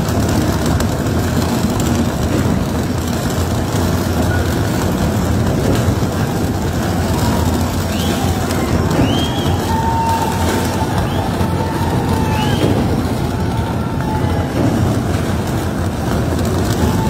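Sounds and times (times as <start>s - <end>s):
tunnelling machinery rumble: 0.0s - 17.0s.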